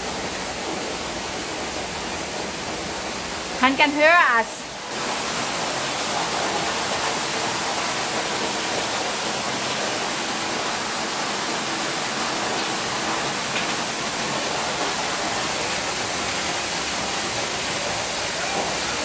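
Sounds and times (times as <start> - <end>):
waterfall splashing: 0.0 - 19.0.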